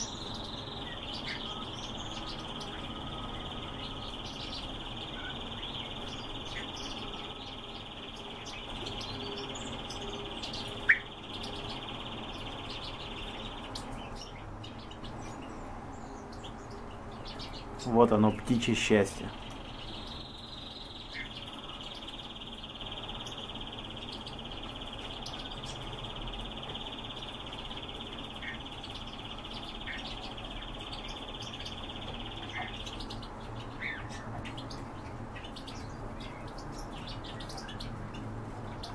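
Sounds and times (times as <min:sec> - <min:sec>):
high-pitched bird trill: 0:00.0 - 0:38.0.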